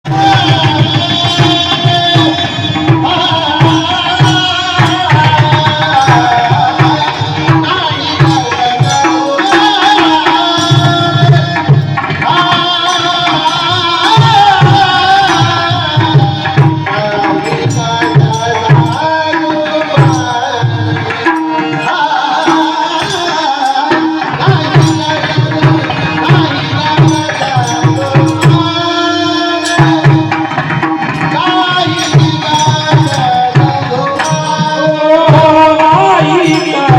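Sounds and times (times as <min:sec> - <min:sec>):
ornamented sung melody: 0:00.0 - 0:36.9
tabla rhythm: 0:00.0 - 0:36.9.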